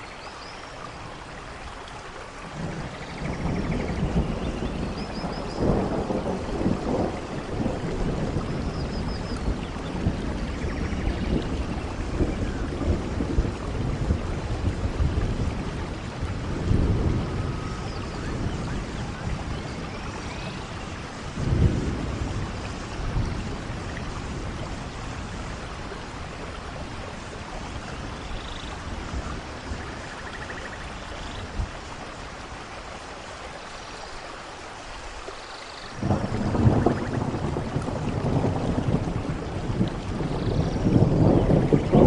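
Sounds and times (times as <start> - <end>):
heavy rain: 0.0 - 42.0
thunder rumbling: 2.4 - 32.0, 36.0 - 42.0.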